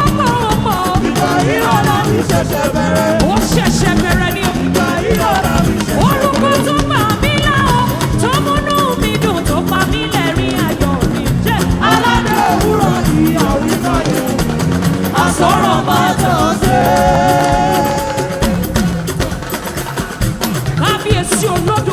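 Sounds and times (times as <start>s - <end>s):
band with percussion beat: 0.0s - 21.9s
person singing: 0.0s - 21.9s.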